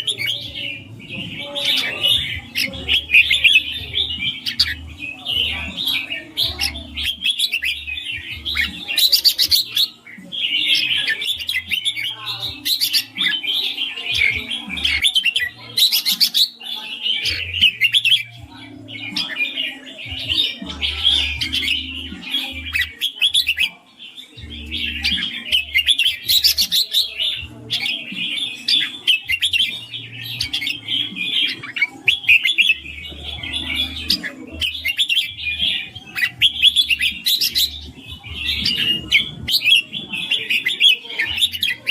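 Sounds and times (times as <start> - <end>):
bird singing chattering phrases: 0.0 - 41.9.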